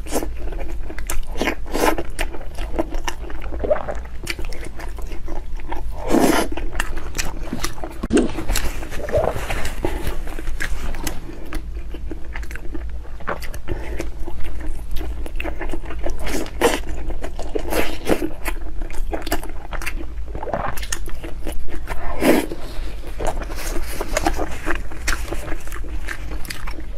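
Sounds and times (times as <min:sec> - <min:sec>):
person chewing food: 0:00.0 - 0:26.9
steady low hum: 0:00.0 - 0:26.9.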